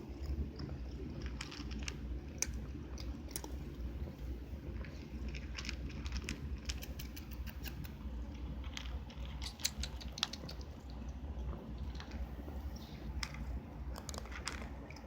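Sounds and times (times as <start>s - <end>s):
cat lapping and chewing: 0.0s - 15.0s.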